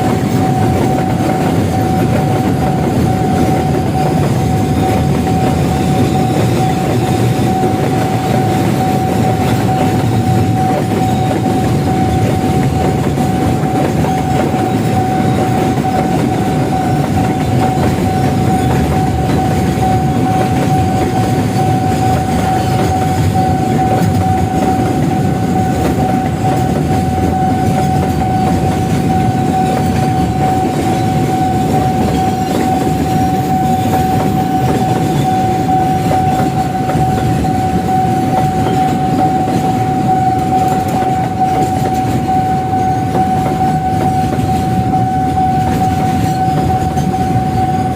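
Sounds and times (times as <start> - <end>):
train wheels clacking on rails: 0.0 - 47.9.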